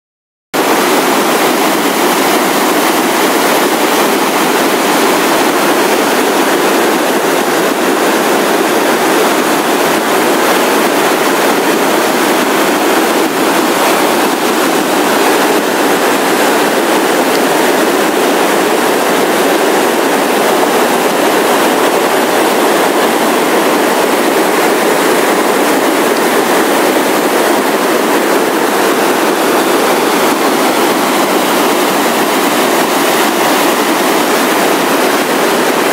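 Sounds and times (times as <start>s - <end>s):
waterfall and rapids rushing: 0.6s - 35.9s.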